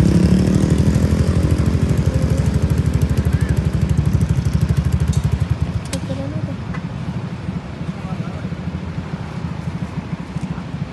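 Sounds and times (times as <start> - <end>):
vehicle engine pulsing: 0.0 - 10.9.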